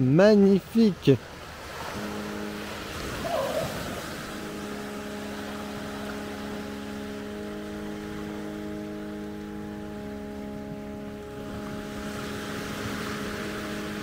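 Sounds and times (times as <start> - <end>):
boat engine running: 0.6 - 14.0.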